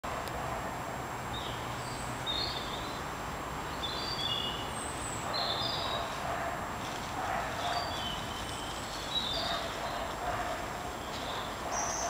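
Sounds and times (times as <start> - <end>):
outdoor background hiss: 0.0 - 12.0
birds chirping: 1.3 - 6.5, 7.2 - 12.0.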